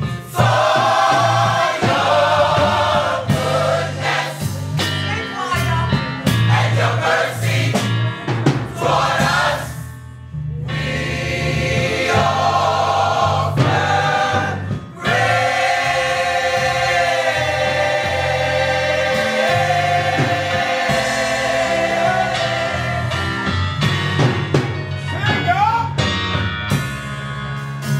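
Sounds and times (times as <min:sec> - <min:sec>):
gospel choir singing: 0:00.0 - 0:09.9, 0:10.6 - 0:24.6
instrumental accompaniment: 0:00.0 - 0:27.9.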